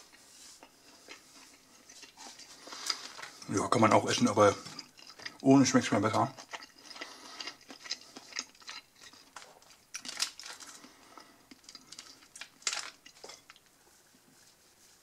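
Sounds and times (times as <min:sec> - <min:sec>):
chewing crunchy food: 0:00.0 - 0:13.7.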